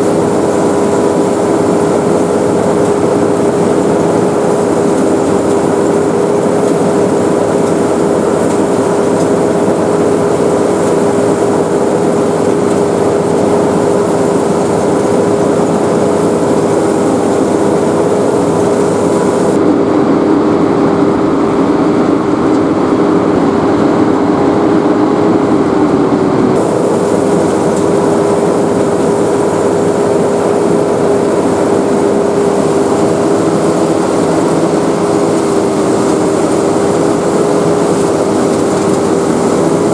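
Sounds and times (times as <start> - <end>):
harvester engine drone: 0.0 - 39.9
lower machine tone: 0.0 - 39.9
steady machine whine: 0.0 - 39.9.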